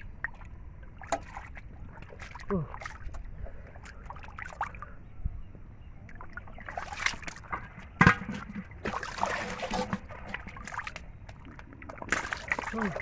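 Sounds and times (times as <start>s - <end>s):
muddy water sloshing and splashing: 0.0s - 5.1s, 5.9s - 13.0s.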